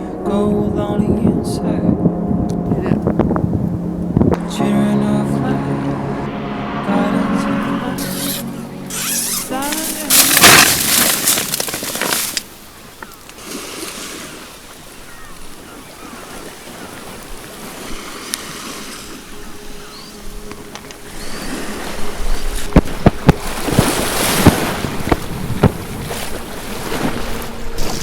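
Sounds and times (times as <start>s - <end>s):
sea waves washing: 0.0s - 28.0s
wind on microphone: 0.0s - 28.0s.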